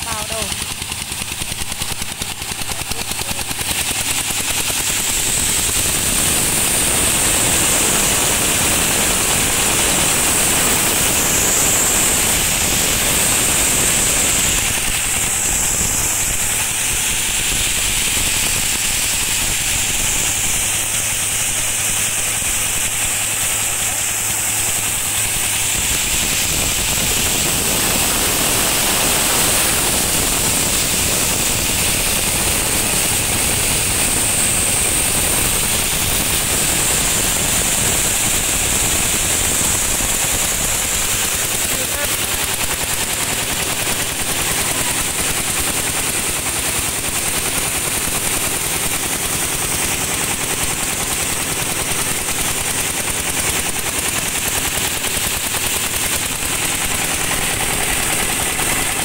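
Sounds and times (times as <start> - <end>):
diesel engine running: 0.0 - 59.0
huller hiss and rattle: 0.0 - 59.0.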